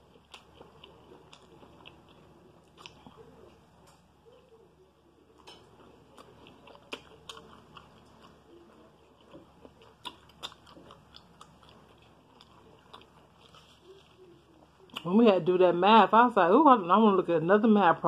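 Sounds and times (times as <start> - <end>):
chewing toast: 0.0 - 15.1.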